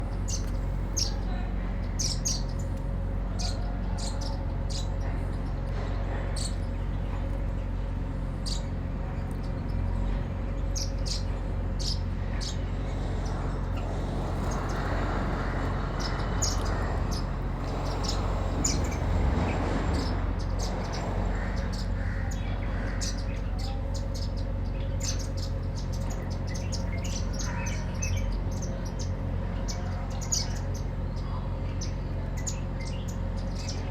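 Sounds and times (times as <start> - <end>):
sparrows chirping: 0.0 - 33.9
steady low hum: 0.0 - 33.9.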